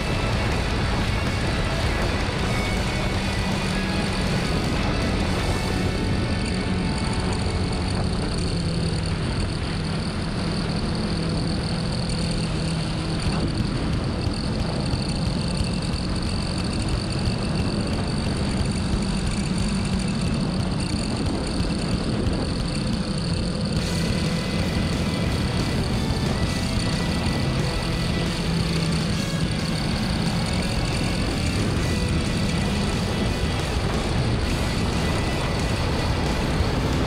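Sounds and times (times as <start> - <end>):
motorcycle engine: 0.0 - 37.0
wind and road noise: 0.0 - 37.0.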